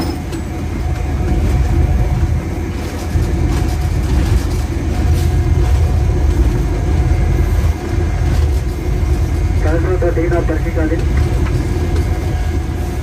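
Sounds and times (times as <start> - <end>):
locomotive engine and wheels rumbling: 0.0 - 13.0.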